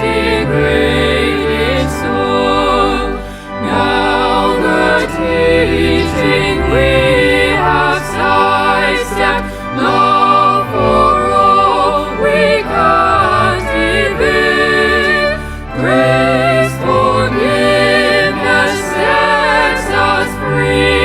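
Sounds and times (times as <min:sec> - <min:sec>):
choir singing a hymn: 0:00.0 - 0:21.0
low accompaniment: 0:00.0 - 0:21.0.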